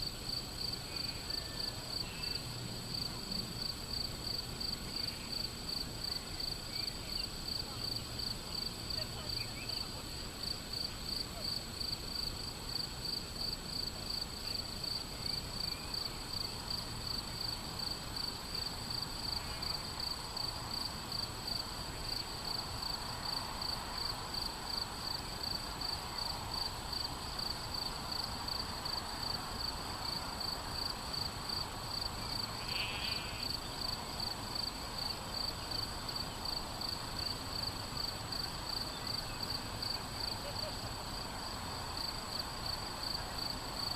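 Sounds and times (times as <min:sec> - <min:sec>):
crickets chirping: 0:00.0 - 0:43.9
faint outdoor background noise: 0:00.0 - 0:43.9.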